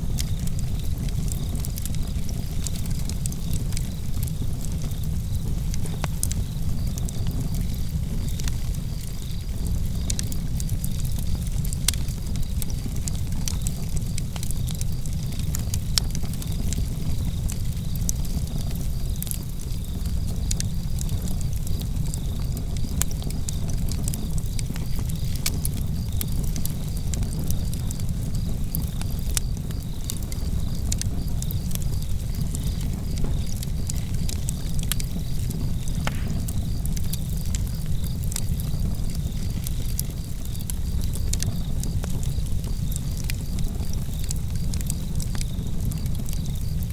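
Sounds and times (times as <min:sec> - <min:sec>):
crickets chirping: 0:00.0 - 0:22.5, 0:23.3 - 0:46.9
campfire crackling and popping: 0:00.0 - 0:46.9
low fire rumble: 0:00.0 - 0:46.9.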